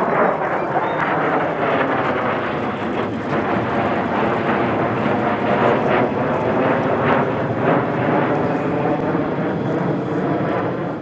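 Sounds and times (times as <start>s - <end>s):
jet fighters flying past: 0.0s - 11.0s.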